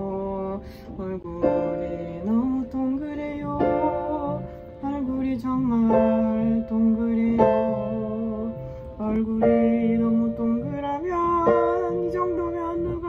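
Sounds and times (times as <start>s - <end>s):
instrumental accompaniment: 0.0s - 13.0s
woman singing slow song: 0.0s - 13.0s.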